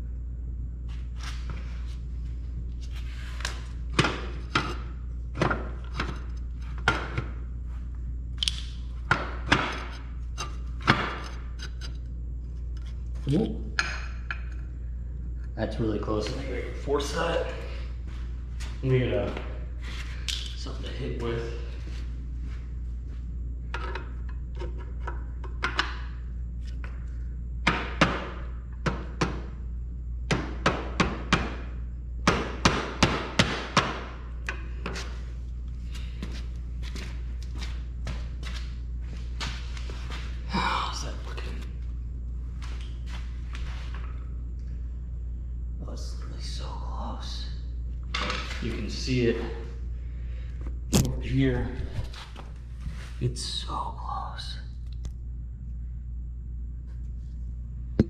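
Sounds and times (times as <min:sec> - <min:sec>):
low hum: 0:00.0 - 0:30.3, 0:34.0 - 0:58.0.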